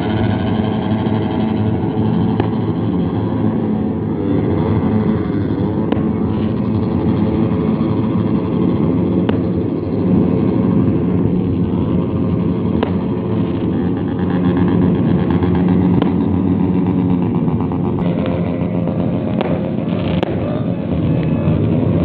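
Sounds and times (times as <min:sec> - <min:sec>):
motorcycles revving: 0:00.0 - 0:22.0.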